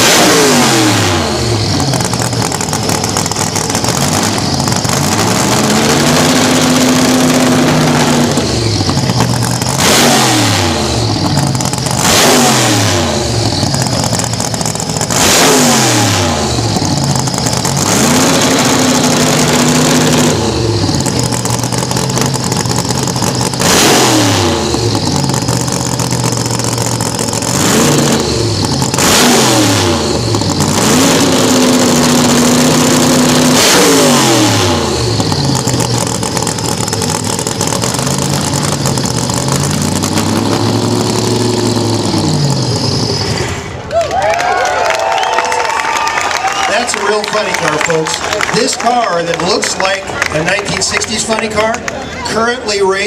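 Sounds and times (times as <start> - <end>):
drag racer engine revving: 0.0 - 43.9, 44.8 - 53.0.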